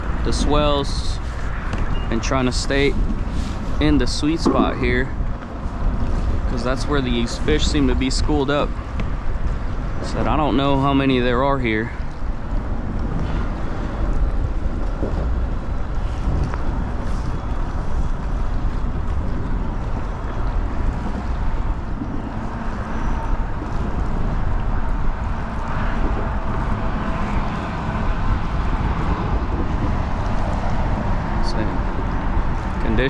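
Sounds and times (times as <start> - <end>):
choppy water around kayak: 0.0 - 33.0
wind buffeting microphone: 0.0 - 33.0.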